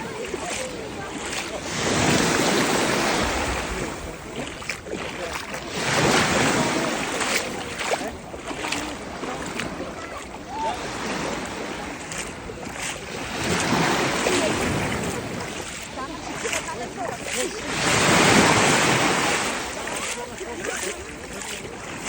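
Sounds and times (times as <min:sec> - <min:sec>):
sea waves breaking: 0:00.0 - 0:22.0.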